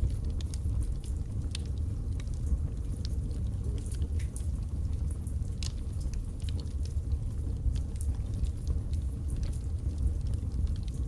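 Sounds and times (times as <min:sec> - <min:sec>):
logs crackling and popping: 0:00.0 - 0:11.0
low rumble of flames: 0:00.0 - 0:11.0.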